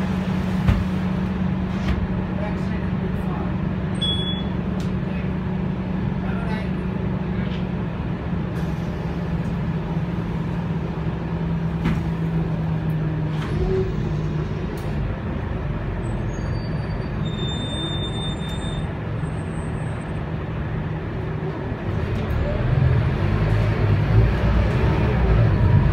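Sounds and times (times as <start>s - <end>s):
bus diesel engine drone: 0.0s - 25.9s
road noise: 0.0s - 25.9s.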